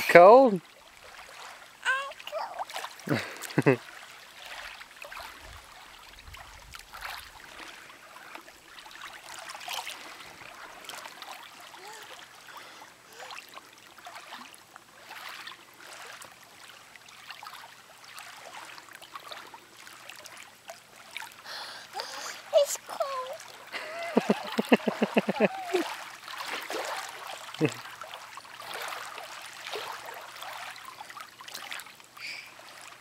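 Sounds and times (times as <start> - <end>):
water splashing and trickling: 0.0 - 33.0.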